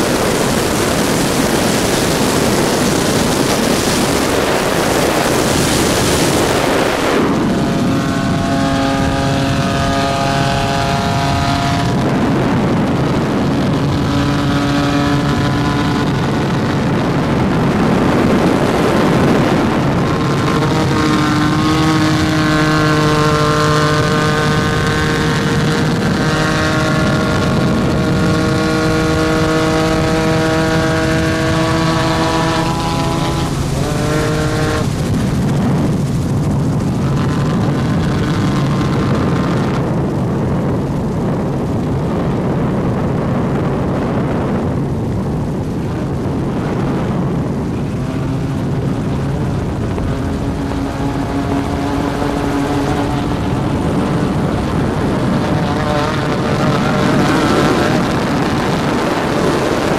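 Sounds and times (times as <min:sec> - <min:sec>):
engine noise with climbing tones: 0:00.0 - 0:59.9.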